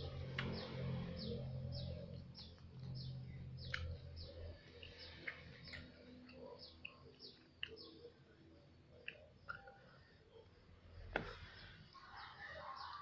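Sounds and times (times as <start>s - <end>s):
bird chirping: 0.0s - 10.6s, 11.2s - 13.0s.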